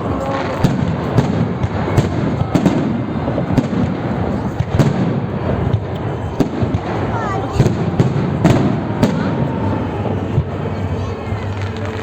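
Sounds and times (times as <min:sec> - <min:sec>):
firework bangs: 0:00.0 - 0:12.0
rumble of distant bursts: 0:00.0 - 0:12.0.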